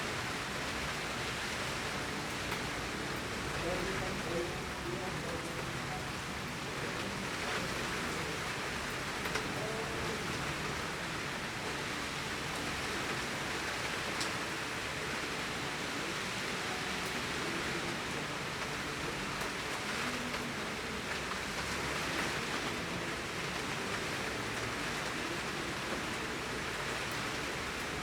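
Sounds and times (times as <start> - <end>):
torrential rain: 0.0 - 28.0.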